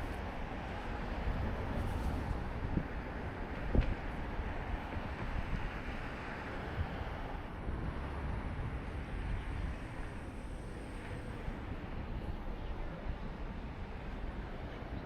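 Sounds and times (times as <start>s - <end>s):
traffic rumble: 0.0s - 15.0s
wind on microphone: 0.0s - 15.0s.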